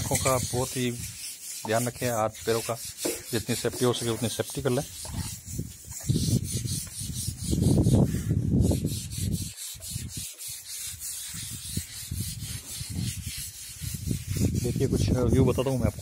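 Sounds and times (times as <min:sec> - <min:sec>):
rope scrubbing wet tiles: 0:00.0 - 0:16.0.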